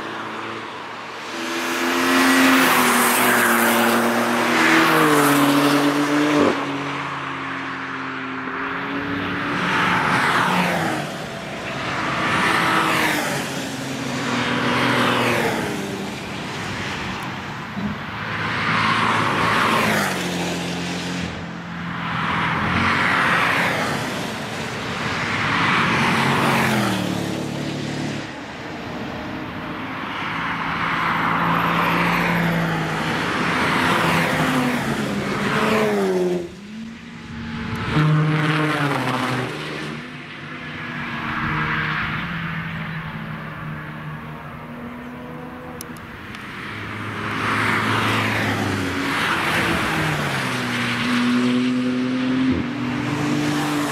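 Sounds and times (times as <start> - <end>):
cars passing at speed: 0.0 - 53.9.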